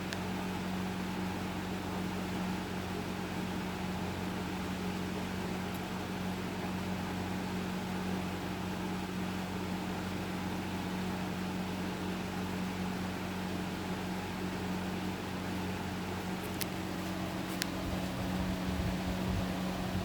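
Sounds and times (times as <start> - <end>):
ceiling fan motor hum: 0.0 - 20.0.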